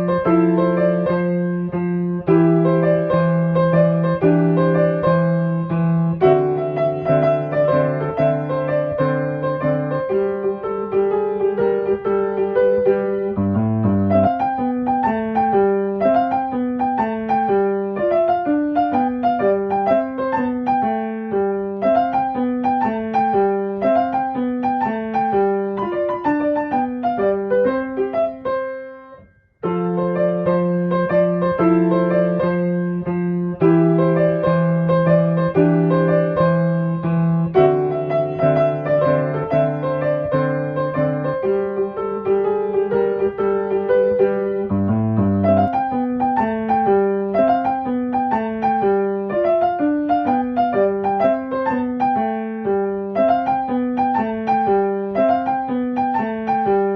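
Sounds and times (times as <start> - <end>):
gentle piano melody: 0.0 - 56.9.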